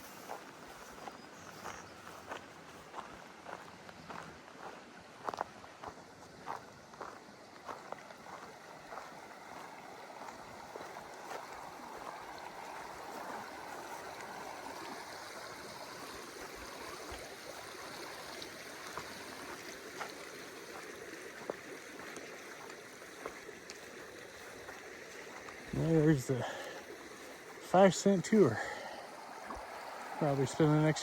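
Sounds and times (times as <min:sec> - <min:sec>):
creek water flowing: 0:00.0 - 0:31.0.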